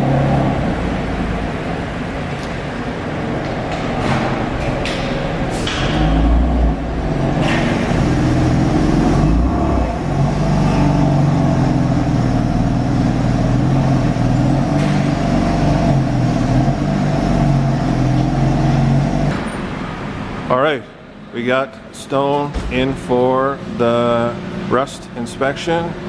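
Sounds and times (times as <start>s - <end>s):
car engine rumbling while driving: 0.0s - 21.2s.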